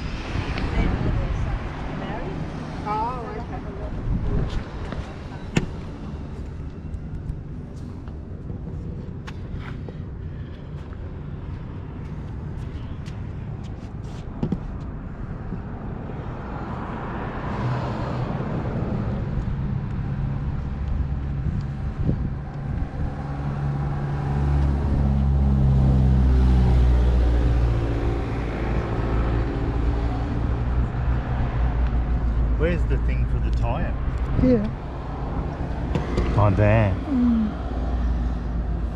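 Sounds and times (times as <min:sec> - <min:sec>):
passing road traffic: 0:00.0 - 0:38.9.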